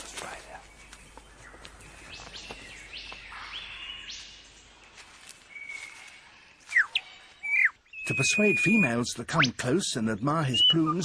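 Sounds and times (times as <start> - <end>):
lyrebird singing: 0.0 - 11.0.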